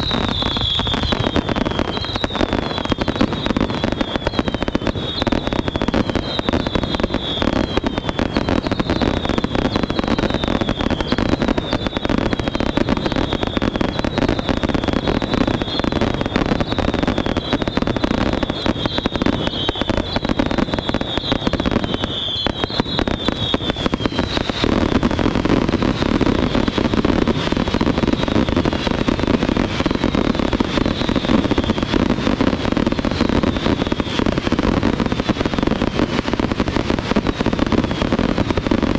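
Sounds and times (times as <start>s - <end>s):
falling firework whistles: 0.0s - 38.9s
fireworks crackling: 0.0s - 38.9s.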